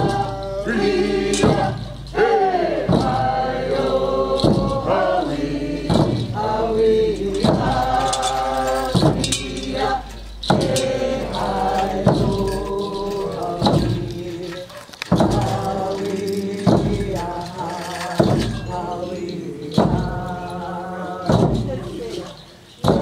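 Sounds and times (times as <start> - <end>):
sharp beat: 0.0 - 14.4, 15.1 - 17.6, 18.2 - 20.7
group of voices chanting: 0.0 - 22.2.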